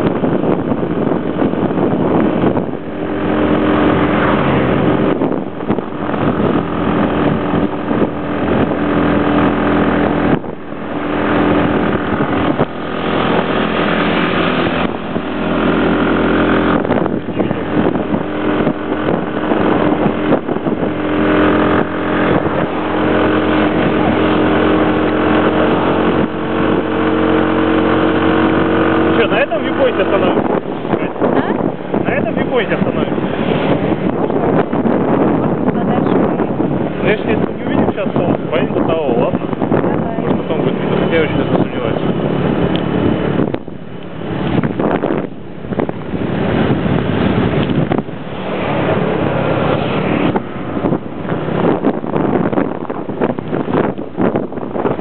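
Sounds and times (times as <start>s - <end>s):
motorbike engine running: 0.0s - 55.0s
wind rushing over microphone: 0.0s - 55.0s.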